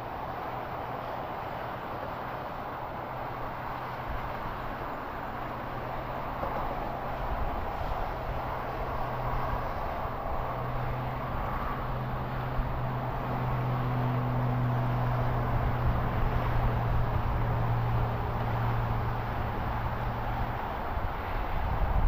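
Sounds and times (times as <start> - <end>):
distant engine drone: 0.0 - 22.0.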